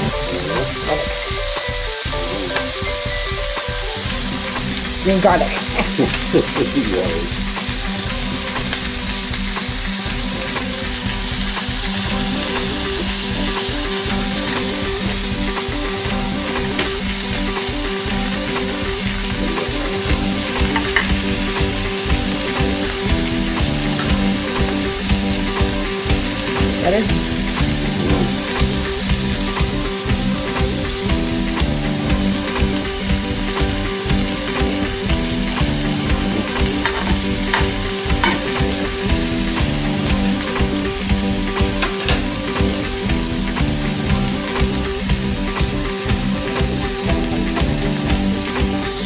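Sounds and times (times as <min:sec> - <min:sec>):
vegetables sizzling in oil: 0:00.0 - 0:49.0.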